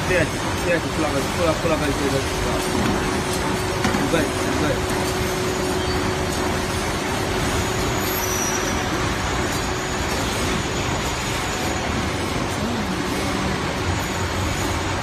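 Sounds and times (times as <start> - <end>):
machine mechanical whir: 0.0 - 15.0.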